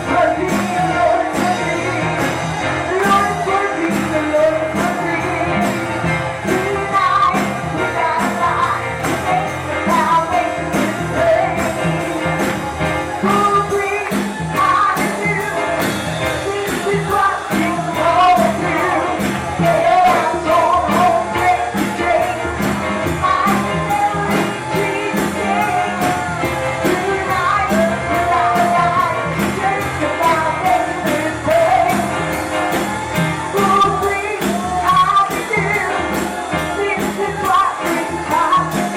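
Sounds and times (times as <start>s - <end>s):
band with fast beat: 0.0s - 38.9s
person singing: 0.0s - 38.9s.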